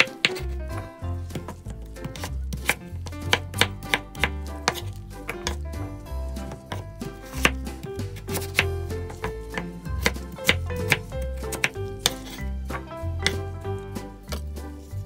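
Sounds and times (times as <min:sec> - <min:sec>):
knife cutting on a cutting board: 0:00.0 - 0:05.6, 0:06.2 - 0:13.5
background music with bass: 0:00.0 - 0:15.0.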